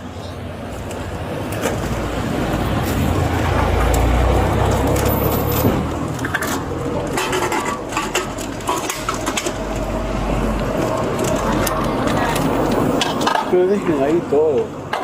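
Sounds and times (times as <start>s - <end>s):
low traffic rumble: 0.0s - 15.0s
objects rustling and knocking: 0.8s - 15.0s.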